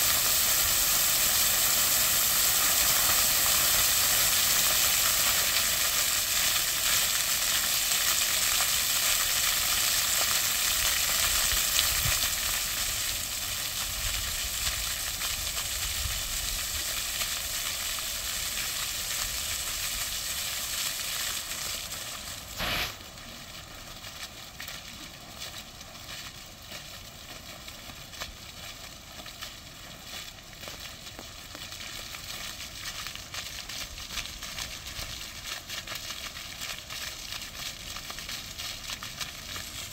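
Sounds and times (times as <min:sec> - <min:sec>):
fountain jets splashing on stone: 0:00.0 - 0:39.9.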